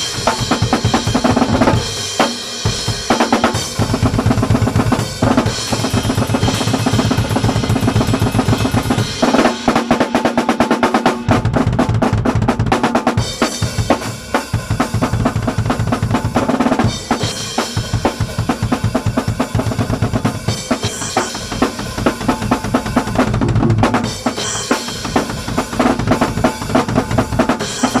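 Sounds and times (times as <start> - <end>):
fast busy drum-kit playing: 0.0 - 28.0.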